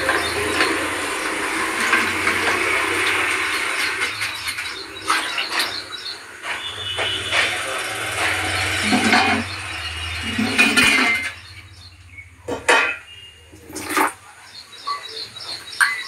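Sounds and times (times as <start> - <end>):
steel pots clinking: 0.0 - 11.8, 12.4 - 14.2.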